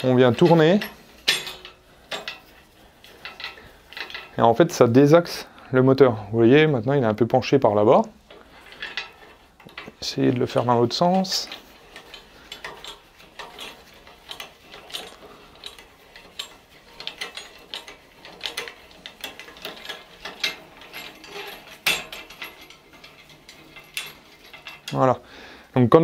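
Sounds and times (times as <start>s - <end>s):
metallic clicks of crank mechanism: 0.0s - 4.8s, 8.2s - 25.2s.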